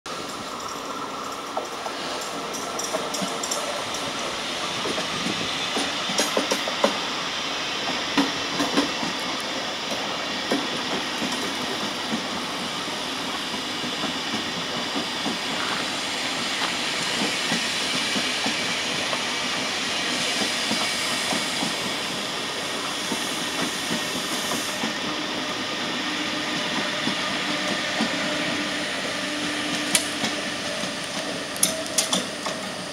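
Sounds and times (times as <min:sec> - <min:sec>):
clickety-clack over rail joints: 0:00.1 - 0:07.1, 0:07.8 - 0:32.9
electric locomotive low tone: 0:00.1 - 0:32.9
train wheels rumbling on track: 0:00.1 - 0:32.9.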